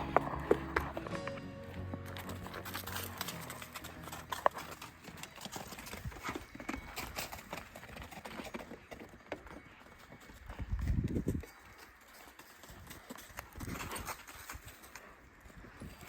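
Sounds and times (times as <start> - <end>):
livestock hooves clopping: 0.0 - 16.0.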